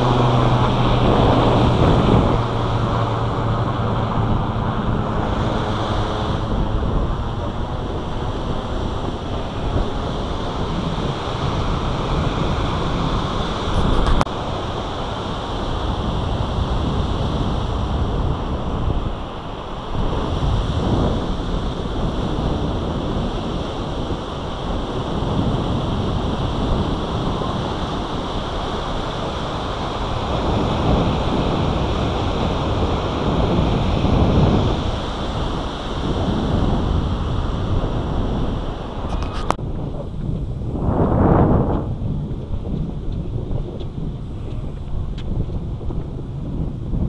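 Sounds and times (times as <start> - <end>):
ocean surf: 0.0 - 47.0
wind gusting on microphone: 0.0 - 47.0.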